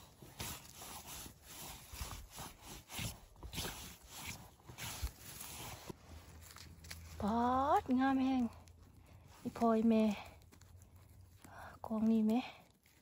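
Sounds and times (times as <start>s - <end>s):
rustling of forest plants: 0.0s - 13.0s.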